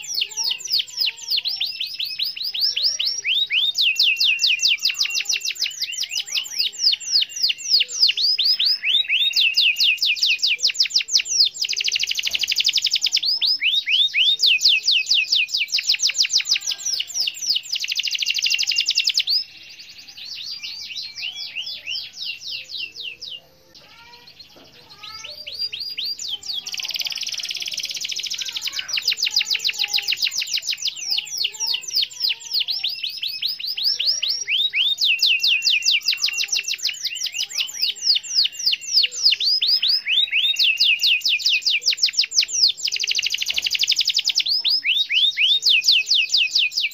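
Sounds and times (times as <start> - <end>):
canary trilling song: 0.0 - 46.9.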